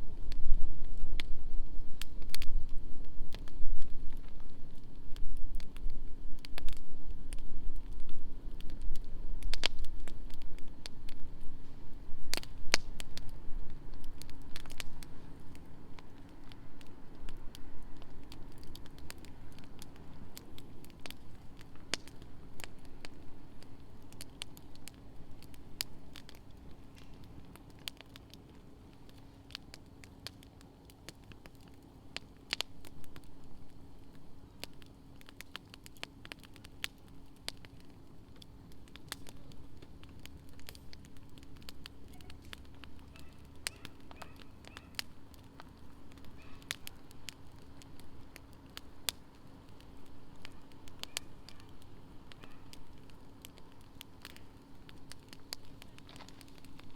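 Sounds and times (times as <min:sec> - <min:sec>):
faint steady hum: 0:00.0 - 0:56.9
wood fire crackling and popping: 0:00.0 - 0:56.9.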